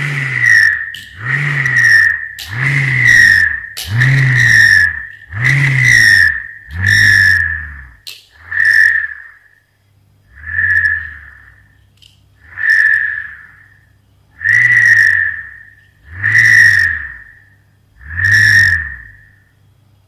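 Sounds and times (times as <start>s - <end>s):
whirligig whistling whir: 0.0s - 9.7s, 10.3s - 19.8s.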